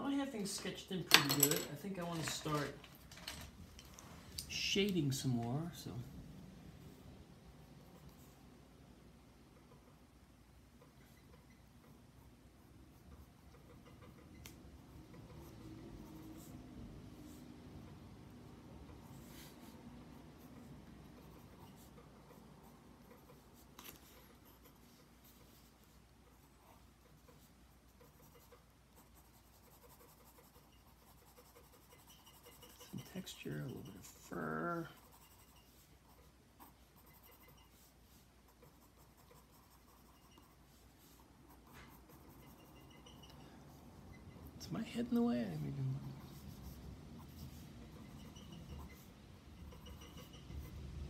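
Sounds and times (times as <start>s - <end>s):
pencil scratching on paper: 6.8s - 8.5s, 10.8s - 51.0s.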